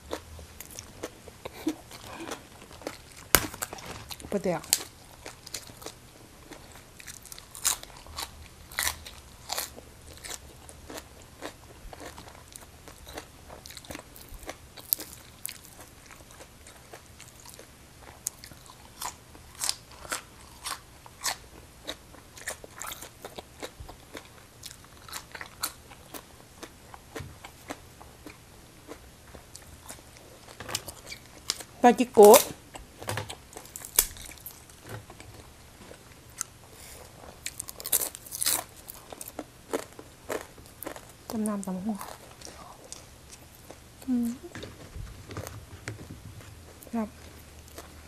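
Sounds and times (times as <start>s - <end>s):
crunchy chewing of greens: 0.0s - 48.0s.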